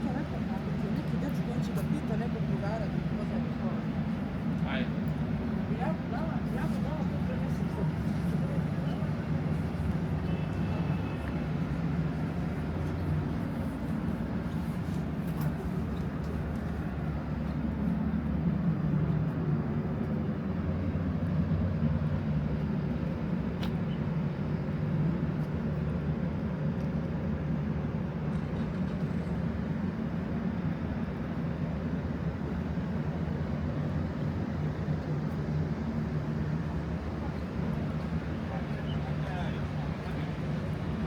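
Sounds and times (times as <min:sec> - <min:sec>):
vehicle engine rumble: 0:06.4 - 0:41.0.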